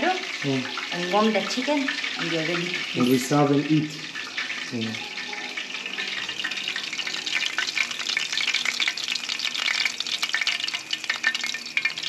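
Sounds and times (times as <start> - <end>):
hot oil sizzling with fish: 0.0 - 12.0.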